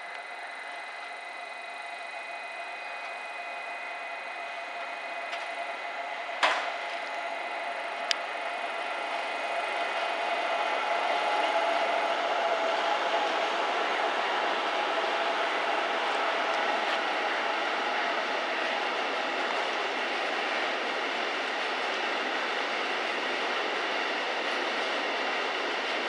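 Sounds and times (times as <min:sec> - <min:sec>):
faint high whine: 0:00.0 - 0:26.0
freight train rumble: 0:00.0 - 0:26.0.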